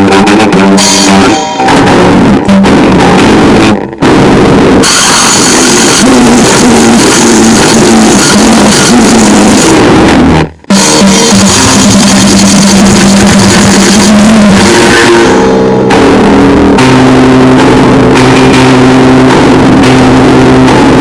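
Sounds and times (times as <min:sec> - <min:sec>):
buzzing pitched tones: 0:00.0 - 0:21.0
harsh distorted noise: 0:00.0 - 0:21.0.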